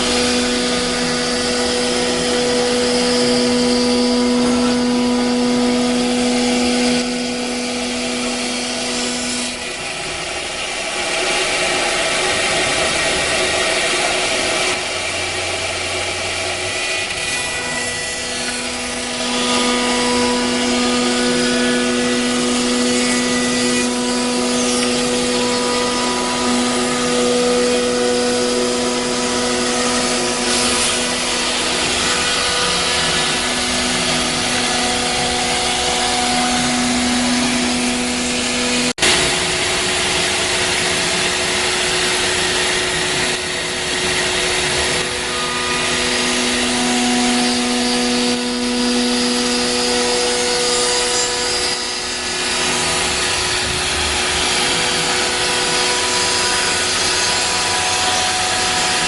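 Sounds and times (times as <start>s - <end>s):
router cutting hiss: 0.0s - 59.0s
spindle whine: 0.0s - 59.0s.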